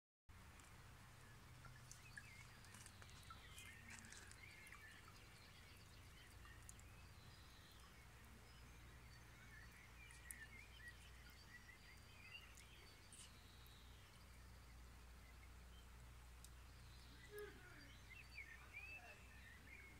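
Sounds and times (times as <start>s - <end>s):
faint ticks: 0.5s - 17.6s
faint bird chirps: 1.1s - 19.9s.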